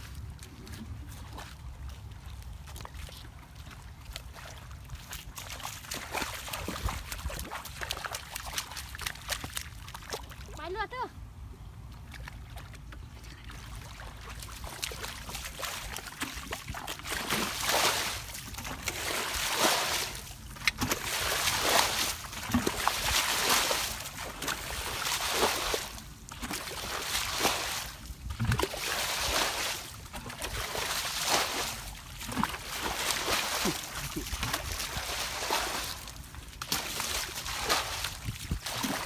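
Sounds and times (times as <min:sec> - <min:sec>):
bucket splashing pond water: 0:00.0 - 0:11.0, 0:11.9 - 0:39.0.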